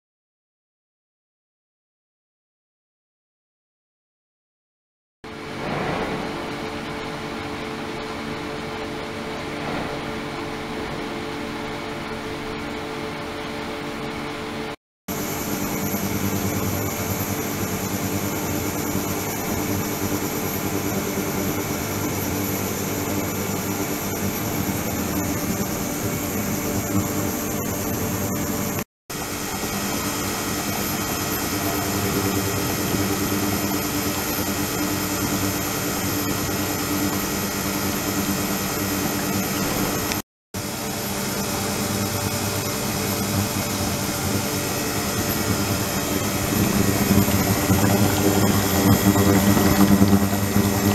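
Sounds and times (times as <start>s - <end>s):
ultrasonic cleaning tank humming: 5.3s - 50.9s.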